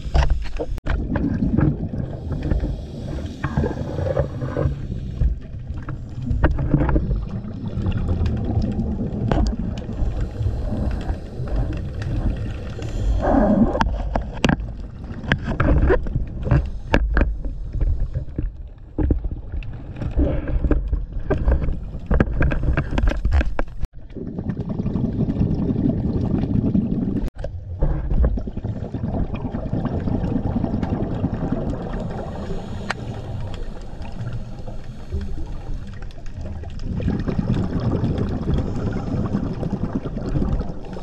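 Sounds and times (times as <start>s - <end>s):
exhaled bubbles: 0.0s - 41.0s
low underwater rush: 0.0s - 41.0s
underwater crackling and gurgling: 0.0s - 41.0s.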